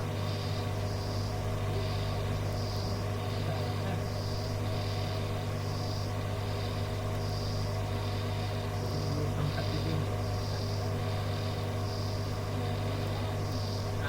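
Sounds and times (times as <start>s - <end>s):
faint high-pitched pulsing tone: 0.0s - 14.0s
radio hum and hiss: 0.0s - 14.0s.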